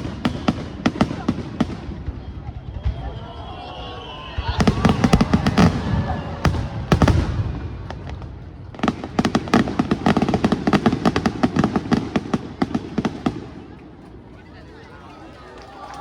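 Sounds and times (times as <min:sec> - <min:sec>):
fireworks bangs: 0:00.0 - 0:14.3
fireworks crackling pops: 0:00.0 - 0:14.4.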